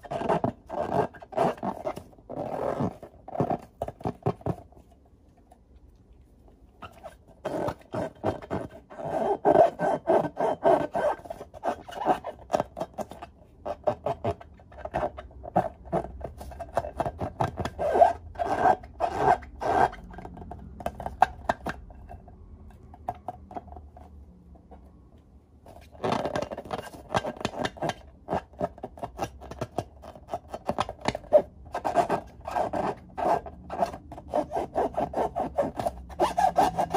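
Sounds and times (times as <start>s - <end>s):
hands rubbing balloons: 0.0s - 5.0s, 6.8s - 21.8s, 25.7s - 36.9s.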